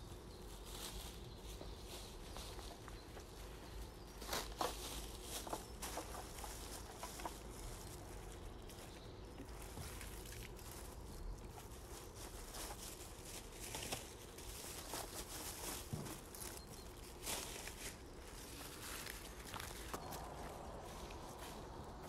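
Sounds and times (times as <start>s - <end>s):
footsteps on dry leaves: 0.0s - 22.0s
plastic bag crinkling: 0.5s - 22.0s.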